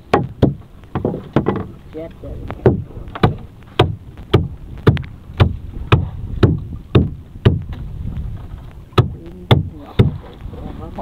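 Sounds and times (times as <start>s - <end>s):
hollow knocks on boat hull: 0.0s - 1.8s, 2.5s - 10.4s
wind and water rumble: 0.0s - 11.0s.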